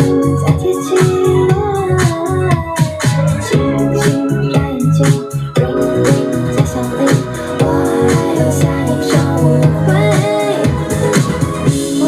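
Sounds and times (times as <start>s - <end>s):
pop dance music: 0.0s - 12.0s.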